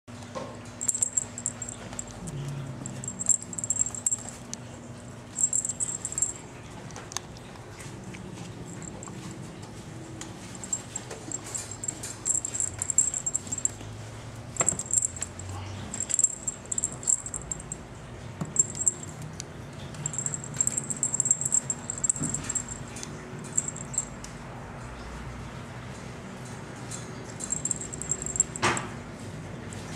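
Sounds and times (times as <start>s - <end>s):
kitten rustling and scratching toy: 0.6s - 24.2s, 26.4s - 29.9s.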